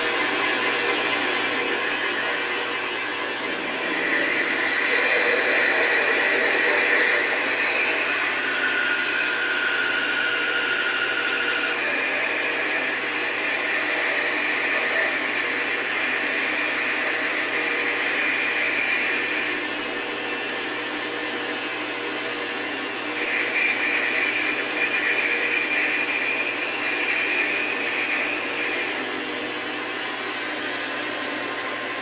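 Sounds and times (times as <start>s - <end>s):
metal lathe drilling: 0.0s - 20.6s, 21.5s - 31.9s.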